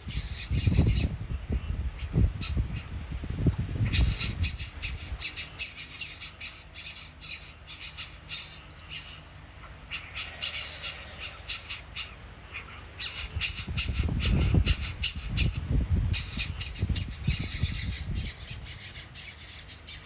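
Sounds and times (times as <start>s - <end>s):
young birds calling: 0.0s - 20.0s.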